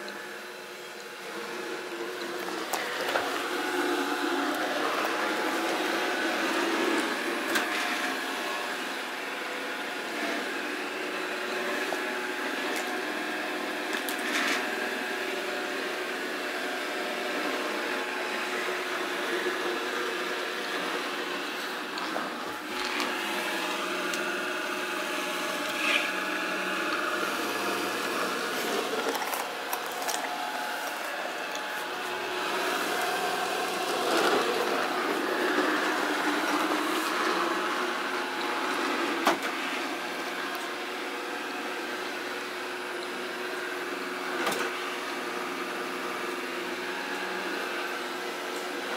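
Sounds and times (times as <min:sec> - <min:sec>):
robot vacuum humming: 0:00.0 - 0:48.9.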